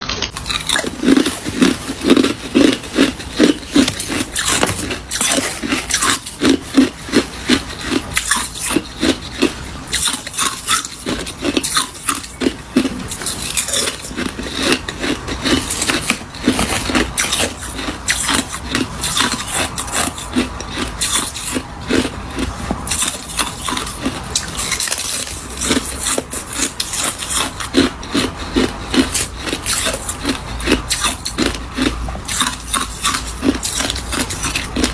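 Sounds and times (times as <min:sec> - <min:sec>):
ice being crunched and chewed: 0:00.0 - 0:34.9.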